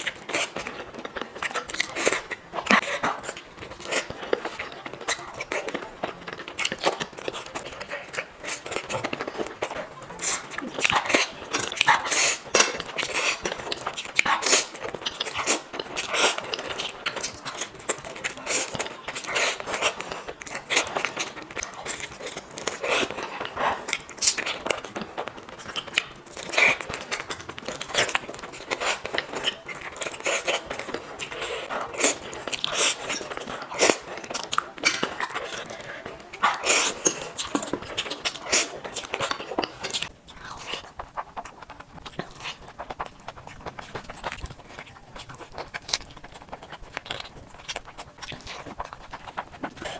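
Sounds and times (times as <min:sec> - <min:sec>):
crunchy bites and chewing: 0:00.0 - 0:49.9.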